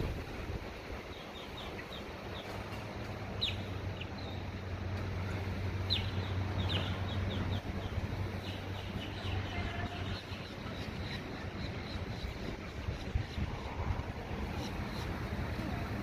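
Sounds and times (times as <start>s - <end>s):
steady low hum: 0.0s - 16.0s
birds chirping: 0.9s - 16.0s.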